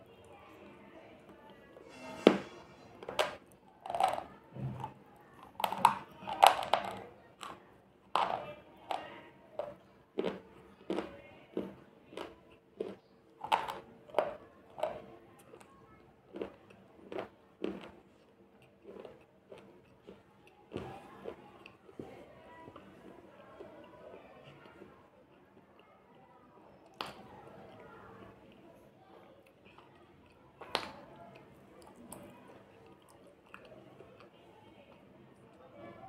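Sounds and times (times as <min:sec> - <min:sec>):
crunching and chewing: 0:03.3 - 0:26.0, 0:26.8 - 0:35.6.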